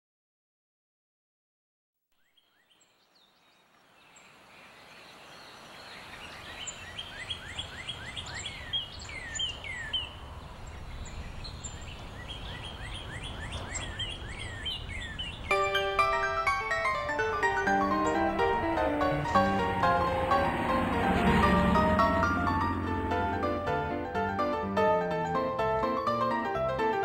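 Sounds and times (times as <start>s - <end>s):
birds chirping: 2.2s - 26.4s.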